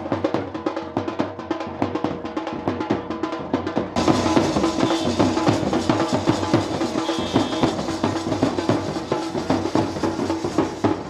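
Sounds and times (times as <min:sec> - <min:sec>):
fast driving drum beats: 0:00.0 - 0:11.0.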